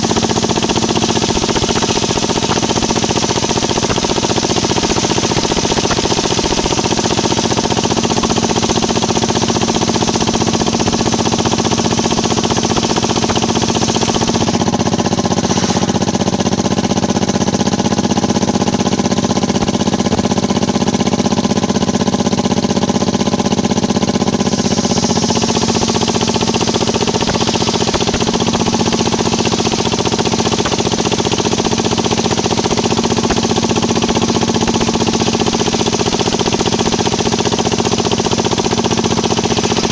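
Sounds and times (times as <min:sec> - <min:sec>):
circular saw bench running: 0:00.0 - 0:39.9.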